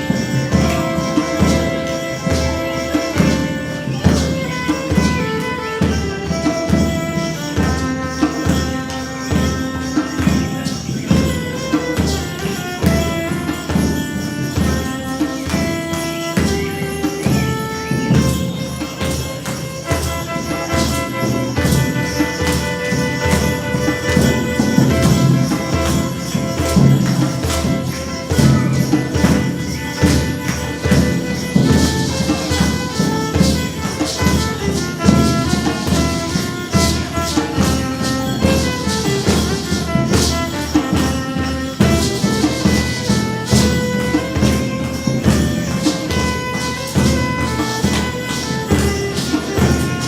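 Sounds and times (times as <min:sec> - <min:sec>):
drum beat: 0:00.0 - 0:50.0
instrumental music with held notes: 0:00.0 - 0:50.0
jingling percussion: 0:00.0 - 0:50.0.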